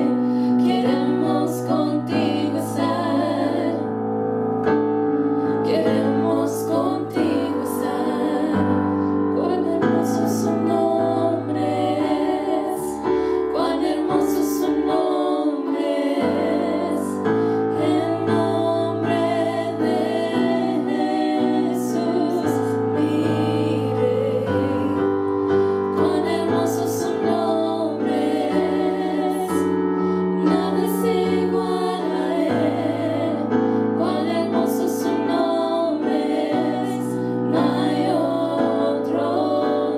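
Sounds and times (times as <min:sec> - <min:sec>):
women singing worship song: 0:00.0 - 0:04.2, 0:05.4 - 0:39.9.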